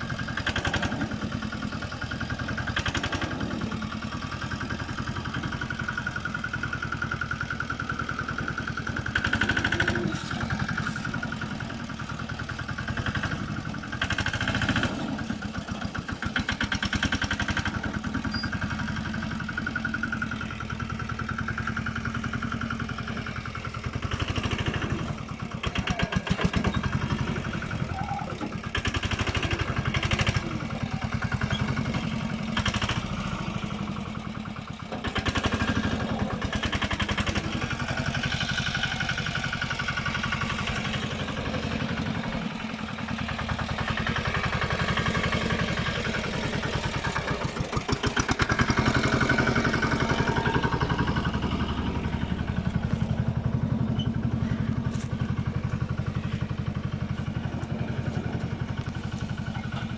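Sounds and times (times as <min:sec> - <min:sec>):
diesel tractor engine chugging: 0:00.0 - 0:59.9.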